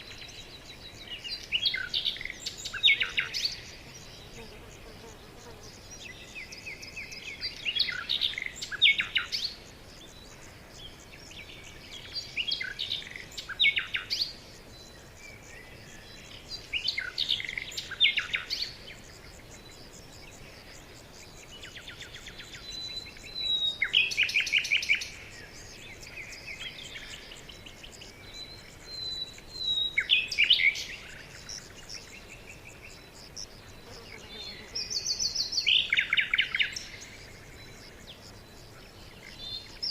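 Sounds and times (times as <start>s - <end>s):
songbird trilling song: 0.0s - 39.9s.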